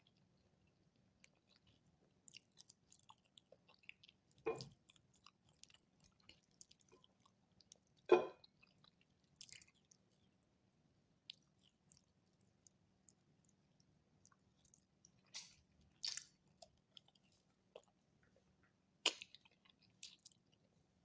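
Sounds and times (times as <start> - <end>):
person chewing food: 0.1 - 10.5, 11.2 - 18.4, 19.0 - 20.6.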